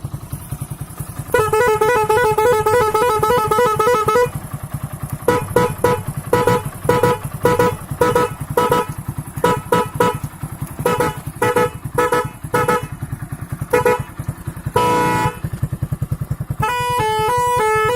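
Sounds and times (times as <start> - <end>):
motorcycle engine idling: 0.0 - 17.9
motorcycle horn beeping: 0.1 - 17.9.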